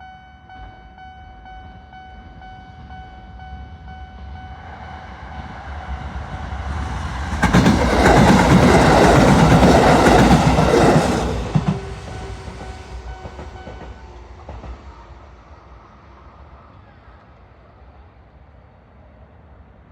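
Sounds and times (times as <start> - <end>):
electric train passing: 0.0 - 19.9.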